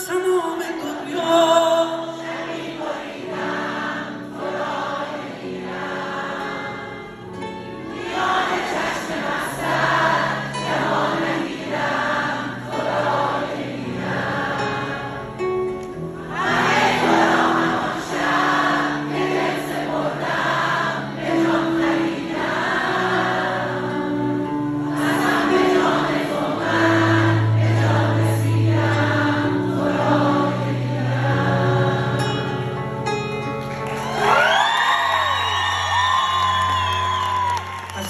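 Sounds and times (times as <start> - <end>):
audience singing along: 0.7 - 33.3.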